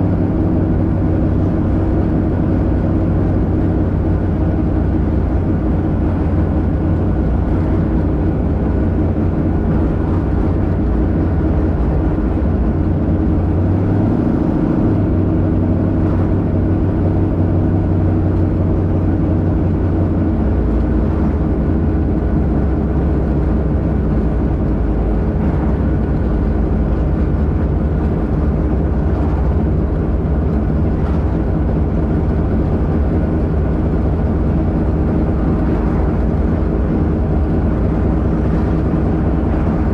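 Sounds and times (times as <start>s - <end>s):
car engine cruising: 0.0s - 39.9s.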